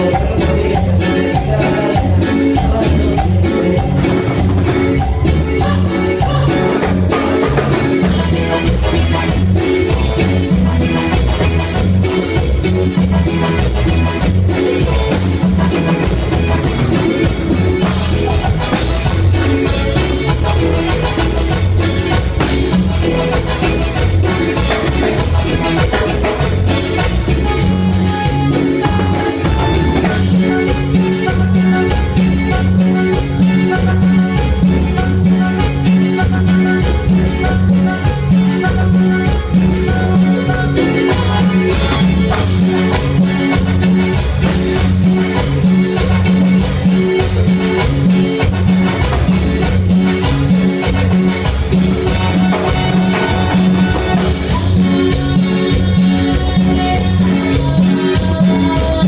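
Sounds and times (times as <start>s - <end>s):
steady bass beat: 0.0s - 58.4s
drums: 0.0s - 59.0s
electronic keyboard: 0.0s - 59.0s.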